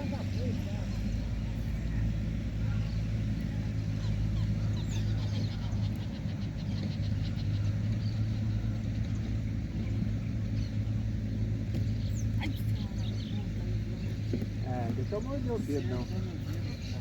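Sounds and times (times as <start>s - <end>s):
birds chirping: 0.0s - 17.0s
low engine hum: 0.0s - 17.0s.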